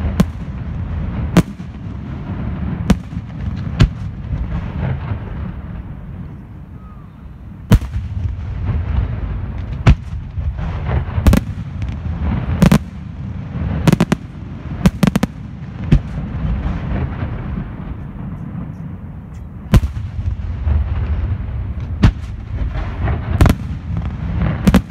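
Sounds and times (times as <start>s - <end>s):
low rumble and crackle: 0.0s - 24.9s.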